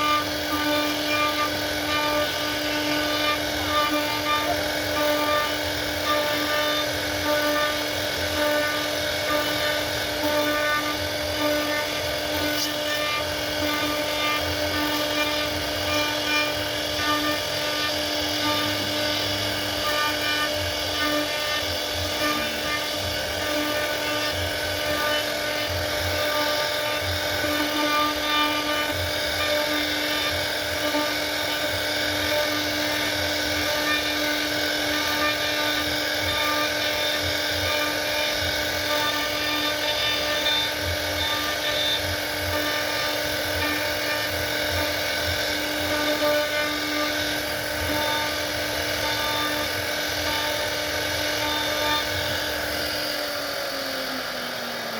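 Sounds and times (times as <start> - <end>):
router spindle whine: 0.0 - 54.9.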